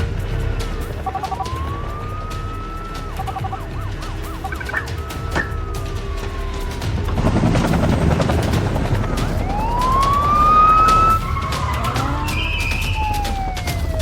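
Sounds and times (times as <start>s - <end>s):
low engine rumble: 0.0s - 14.0s
police sirens wailing: 0.0s - 14.0s.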